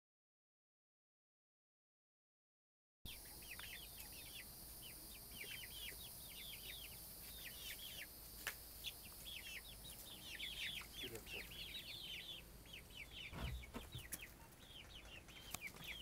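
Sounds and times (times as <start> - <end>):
chickens peeping: 3.1 - 16.0.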